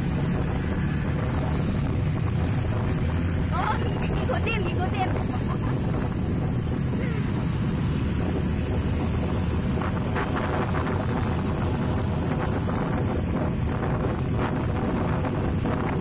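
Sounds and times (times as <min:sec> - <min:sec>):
scooter engine: 0:00.0 - 0:16.0
tyre noise on road: 0:00.0 - 0:16.0
wind buffeting microphone: 0:00.0 - 0:16.0.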